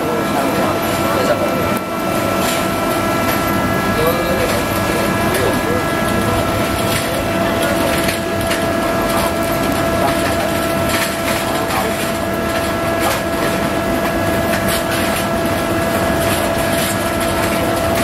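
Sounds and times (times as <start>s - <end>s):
mechanical hum with whine: 0.0s - 18.0s.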